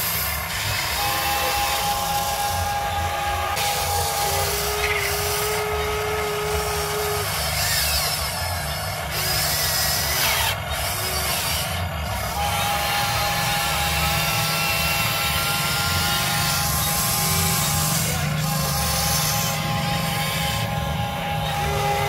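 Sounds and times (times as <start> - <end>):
hydraulic pump whining: 0.0 - 22.0.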